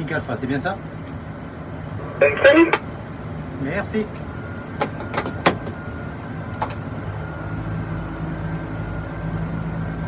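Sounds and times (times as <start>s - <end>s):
tug engine humming: 0.0s - 10.0s.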